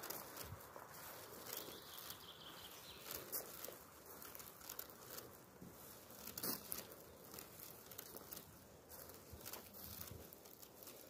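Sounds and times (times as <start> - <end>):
footsteps on forest floor: 0.0 - 11.0.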